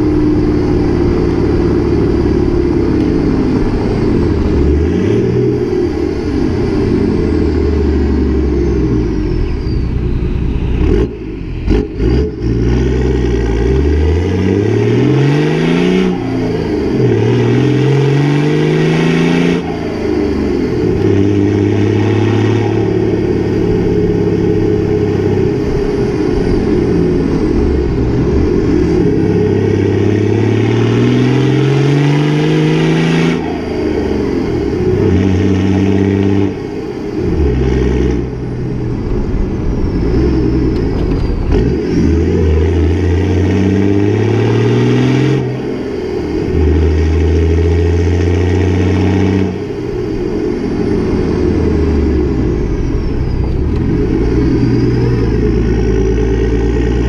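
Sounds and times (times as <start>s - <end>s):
turbo-diesel engine accelerating: 0.0s - 57.0s.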